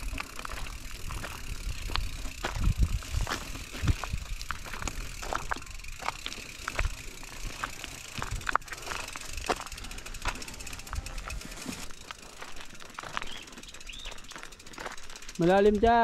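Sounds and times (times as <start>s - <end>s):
bicycle clattering on dirt trail: 0.0s - 16.0s.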